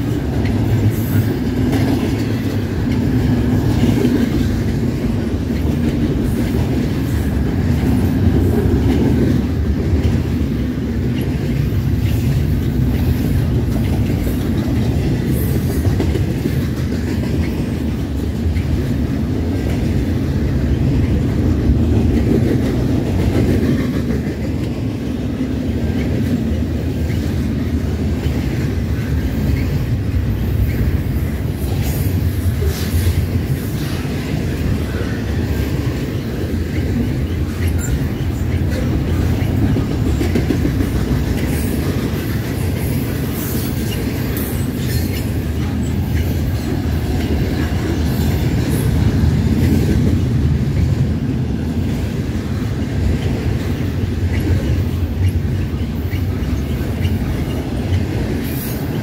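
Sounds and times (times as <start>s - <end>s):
steel wheels rumbling on rails: 0.0s - 59.0s.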